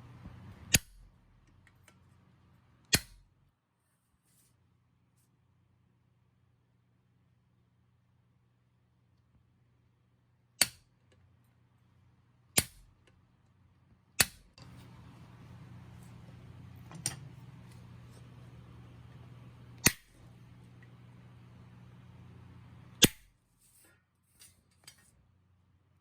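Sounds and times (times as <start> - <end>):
steady low hum: 0.0 - 3.5, 6.4 - 26.0.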